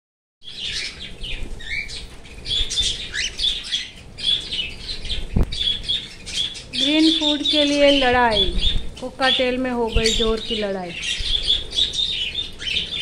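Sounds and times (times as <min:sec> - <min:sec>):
cockatiels chirping and screeching: 0:00.5 - 0:13.0.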